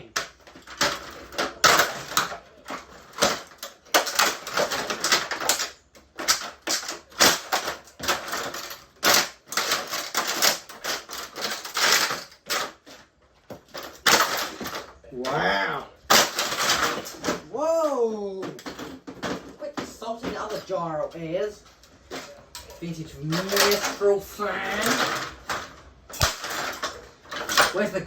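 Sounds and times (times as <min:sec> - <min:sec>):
fan being smashed apart: 0:00.0 - 0:20.8, 0:22.0 - 0:28.0.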